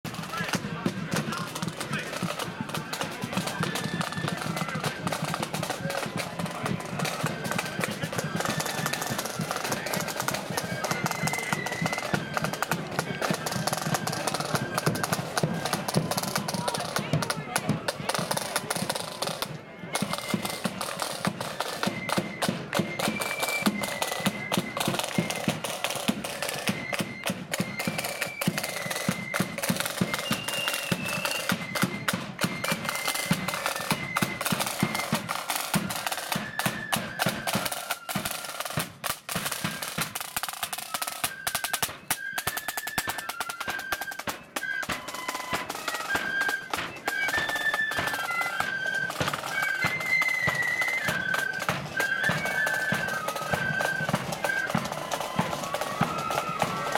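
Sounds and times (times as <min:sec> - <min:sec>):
flute melody: 0:00.1 - 0:56.9
snare drum rolls: 0:00.1 - 0:56.9.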